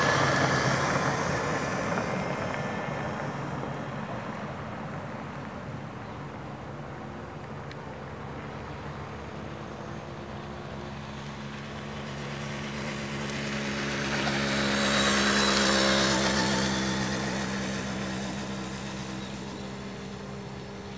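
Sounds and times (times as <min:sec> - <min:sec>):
propeller plane engine drone: 0:00.0 - 0:20.9.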